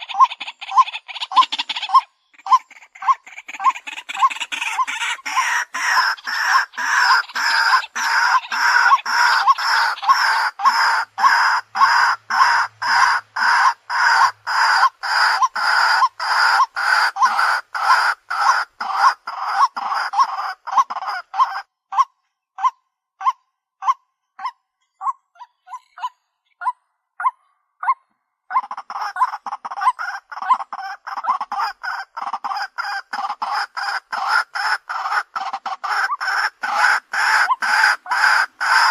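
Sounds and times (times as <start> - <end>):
waterhen calling kwak: 0.0 - 38.9.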